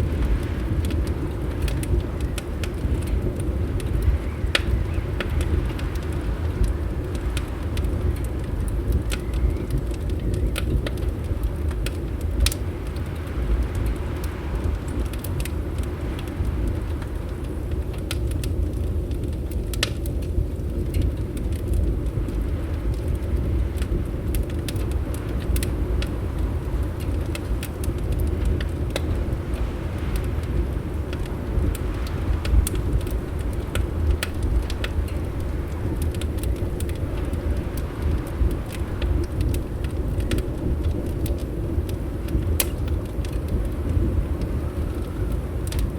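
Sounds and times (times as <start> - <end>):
fireplace crackling: 0.0 - 45.9
low rumble of wind: 0.0 - 45.9.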